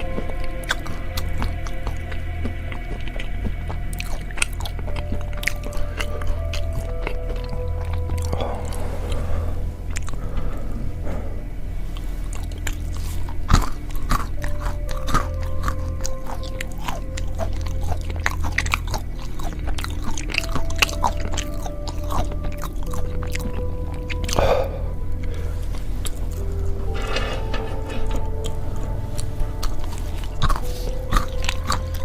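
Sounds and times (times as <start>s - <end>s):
background music: 0.0s - 32.0s
crunching peanuts: 0.0s - 32.0s.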